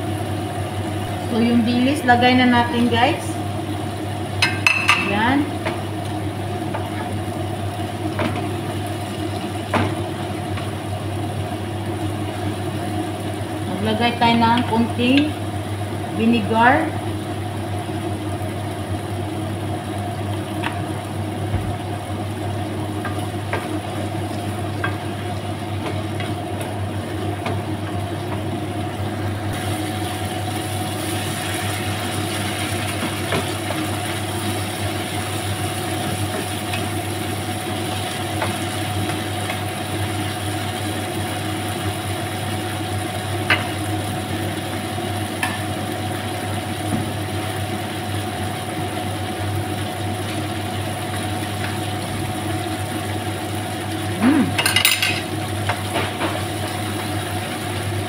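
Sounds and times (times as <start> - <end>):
food sizzling in a frying pan: 0.0 - 58.0
low mechanical hum: 0.0 - 58.0.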